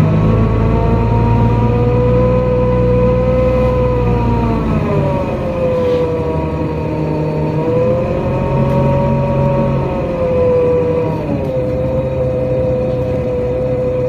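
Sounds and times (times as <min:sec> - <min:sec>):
bus drivetrain whine: 0:00.0 - 0:14.0
low engine hum: 0:00.0 - 0:14.0.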